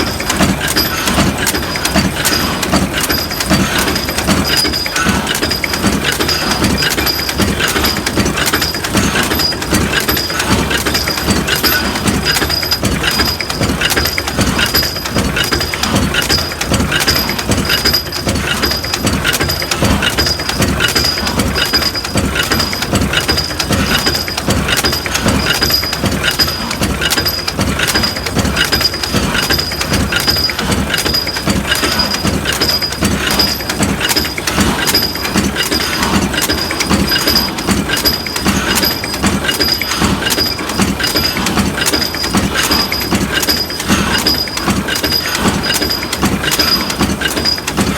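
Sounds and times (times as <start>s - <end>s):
forging machines pounding: 0.0s - 47.9s.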